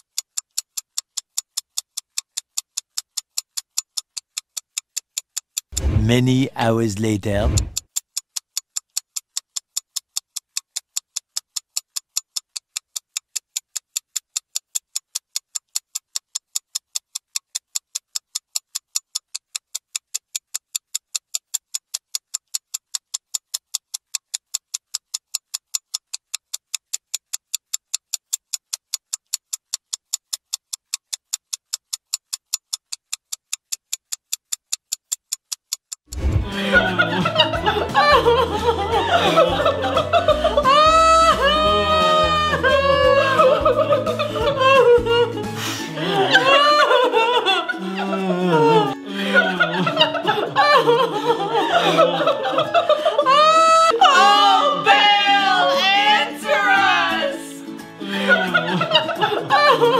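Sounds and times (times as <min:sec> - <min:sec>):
clock ticking: 0:00.0 - 0:47.8, 0:48.9 - 0:56.0, 0:57.8 - 0:59.9.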